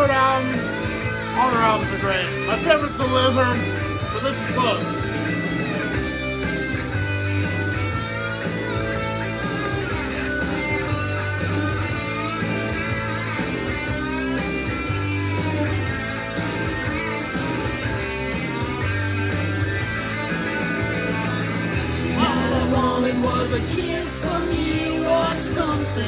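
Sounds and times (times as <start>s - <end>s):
rock music from a vinyl record: 0.0s - 26.0s.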